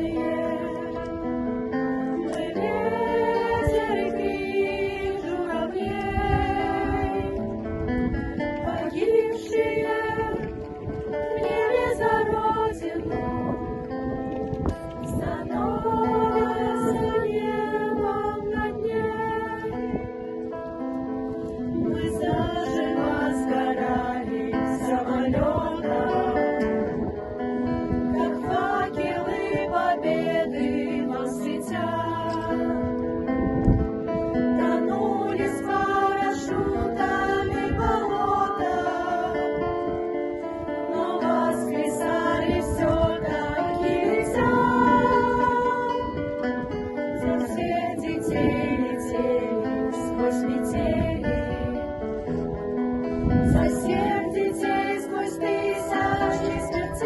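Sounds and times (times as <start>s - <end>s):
children's choir singing a ballad: 0.0s - 14.0s, 14.9s - 20.6s, 21.4s - 33.4s, 34.2s - 57.0s.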